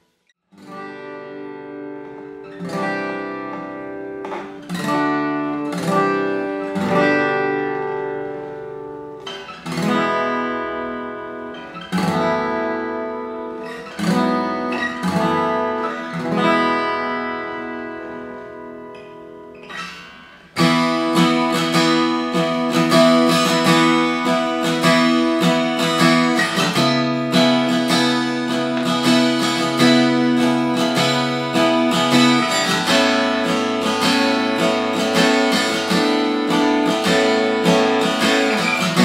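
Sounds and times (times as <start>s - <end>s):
acoustic guitar chords strummed: 0.0s - 39.0s.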